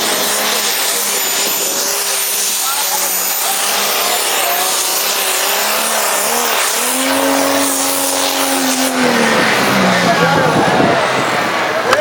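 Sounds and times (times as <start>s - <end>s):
tractor engine at full throttle: 0.0s - 12.0s.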